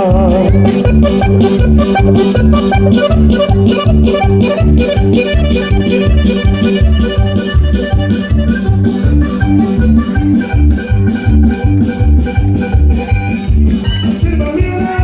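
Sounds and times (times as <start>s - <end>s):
cumbia dance music: 0.0s - 15.0s
pulsing bass beat: 0.0s - 15.0s.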